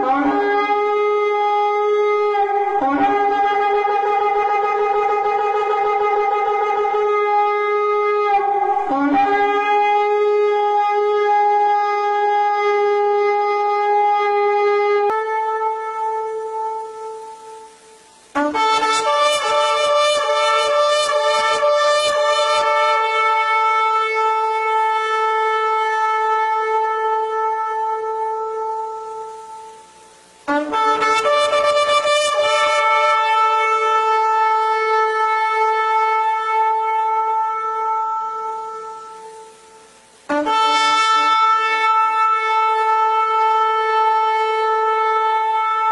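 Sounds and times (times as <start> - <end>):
buzzing horn blasts: 0.0 - 45.9.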